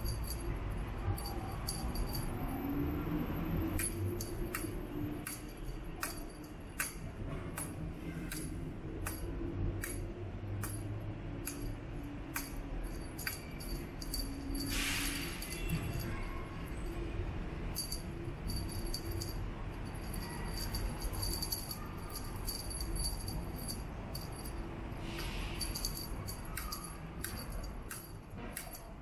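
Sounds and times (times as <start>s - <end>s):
cat toy bell jingling: 0.0s - 7.0s, 10.6s - 17.0s, 17.6s - 29.0s.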